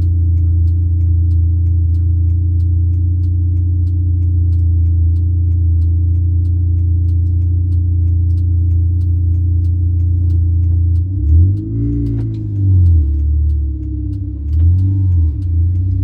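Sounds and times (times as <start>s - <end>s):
car engine droning: 0.0s - 16.0s
light regular ticking: 0.0s - 16.0s.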